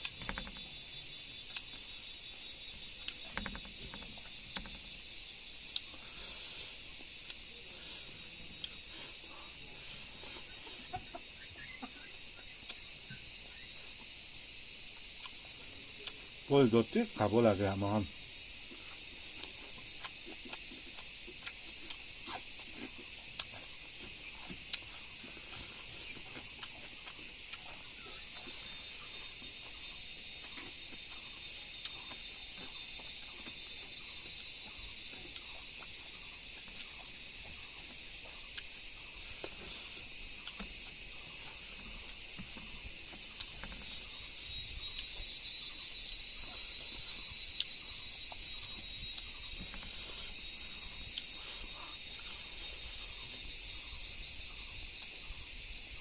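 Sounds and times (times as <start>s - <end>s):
fast pulsing insect trill: 0.0s - 56.0s
insects chirring: 0.0s - 56.0s.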